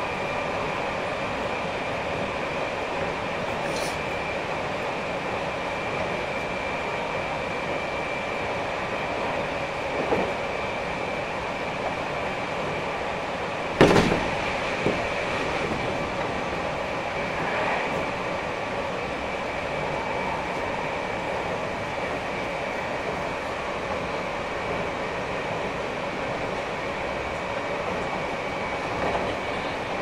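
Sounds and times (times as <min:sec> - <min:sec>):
electric train rumble with whine: 0:00.0 - 0:30.0.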